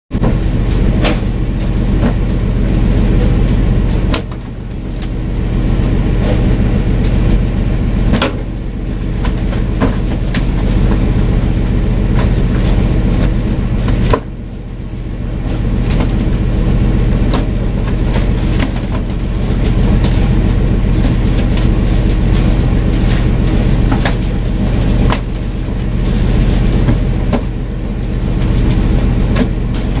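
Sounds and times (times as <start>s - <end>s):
boat engine droning: 0.1s - 30.0s
fish flapping on wooden deck: 0.3s - 30.0s.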